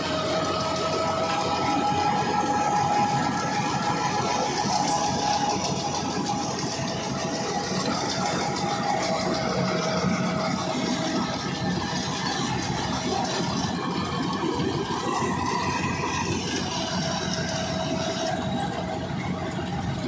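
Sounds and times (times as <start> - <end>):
straw reaper mechanical din: 0.0 - 20.0
tractor engine running: 0.0 - 20.0
whining tones: 0.0 - 20.0.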